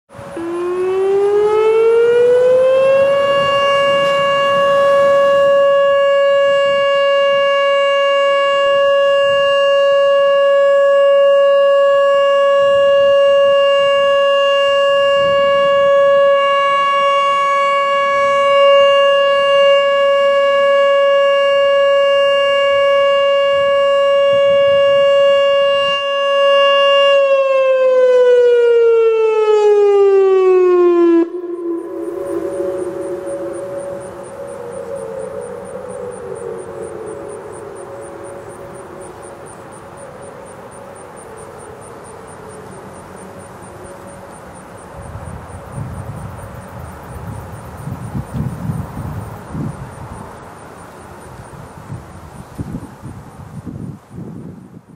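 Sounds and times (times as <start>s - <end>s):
outdoor warning siren: 0.1s - 54.9s.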